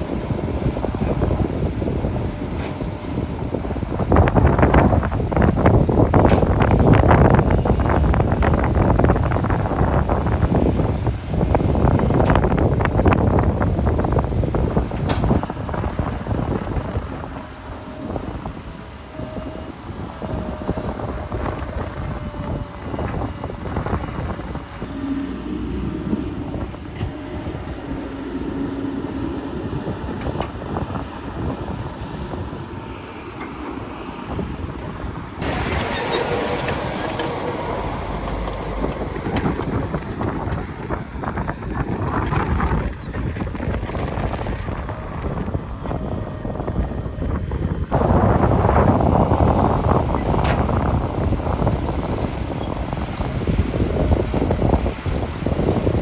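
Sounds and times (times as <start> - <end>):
diesel machinery engine: 0.0 - 56.0
wind on microphone: 0.0 - 56.0.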